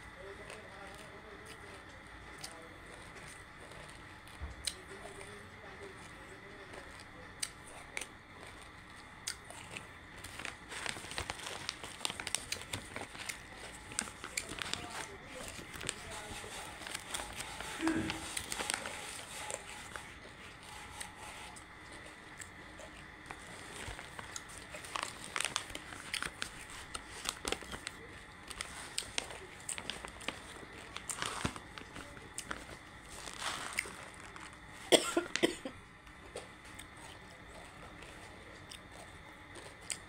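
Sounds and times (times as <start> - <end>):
crunchy chewing: 0.0 - 40.0.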